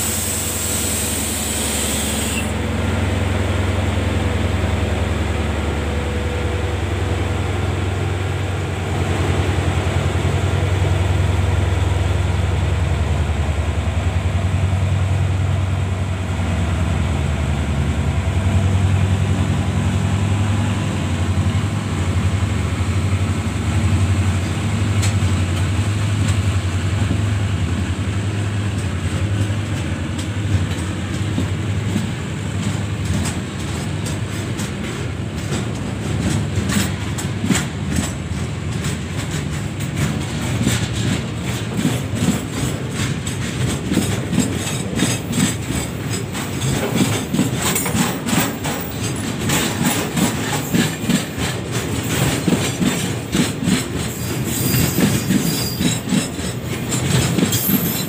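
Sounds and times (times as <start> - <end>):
diesel locomotive engine throbbing: 0.0 - 58.0.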